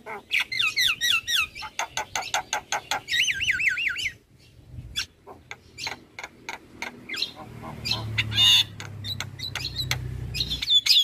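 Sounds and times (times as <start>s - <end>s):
bird singing squawky notes: 0.0s - 11.0s.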